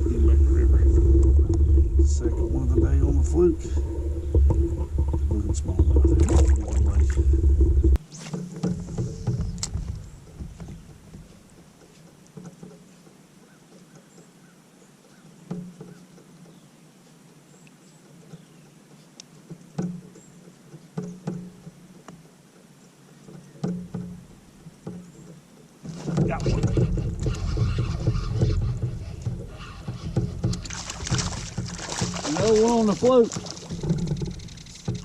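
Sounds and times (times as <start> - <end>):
light knocks and clicks from kayak gear: 3.7 - 35.0.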